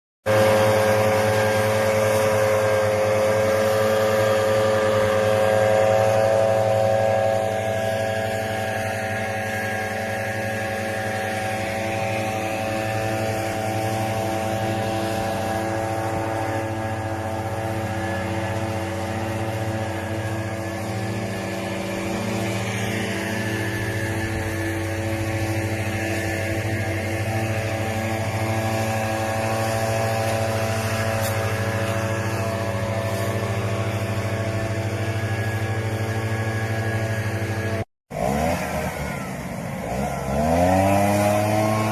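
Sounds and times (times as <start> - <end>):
engine hum: 0.2 - 41.9.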